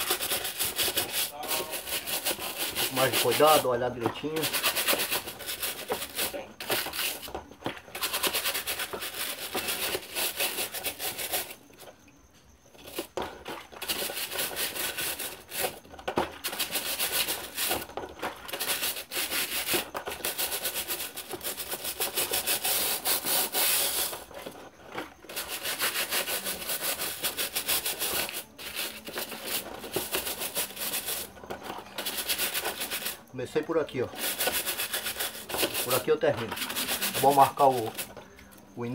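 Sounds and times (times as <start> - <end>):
brush scrubbing fan grille: 0.0 - 11.9, 12.8 - 38.9.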